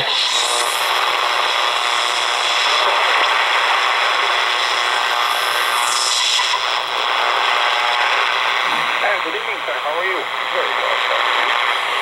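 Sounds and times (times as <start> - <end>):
shortwave radio static and hiss: 0.0 - 12.0.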